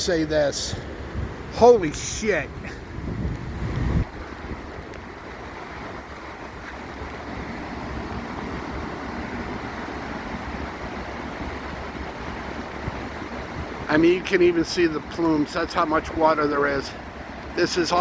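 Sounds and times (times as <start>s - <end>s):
wind buffeting microphone: 0.0s - 17.6s
river pouring over waterfall: 0.0s - 18.0s.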